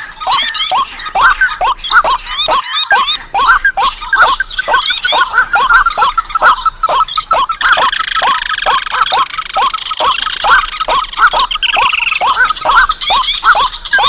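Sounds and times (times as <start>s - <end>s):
dry rattling bird trill: 0.0s - 14.0s
fast repeated bird calls: 0.0s - 14.0s.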